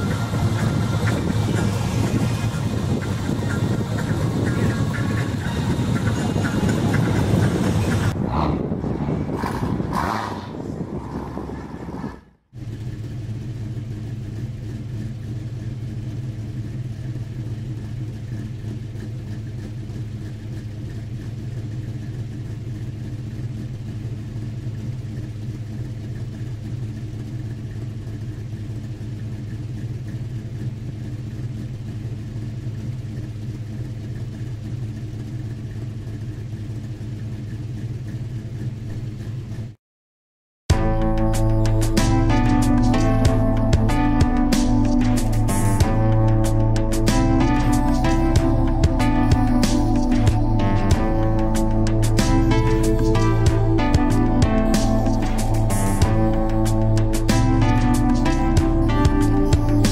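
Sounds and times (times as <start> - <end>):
engine idling: 0.0 - 10.0, 12.6 - 39.8, 40.7 - 59.9.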